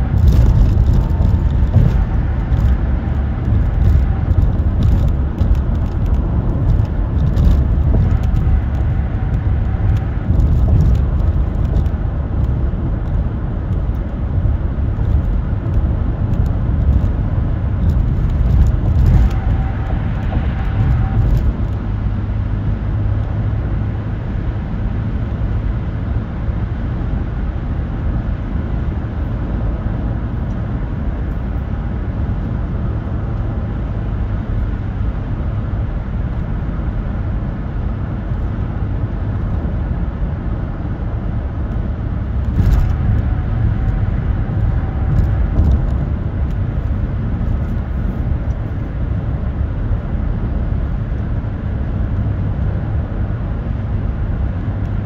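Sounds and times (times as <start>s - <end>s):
tyre and road noise inside car: 0.0s - 55.0s.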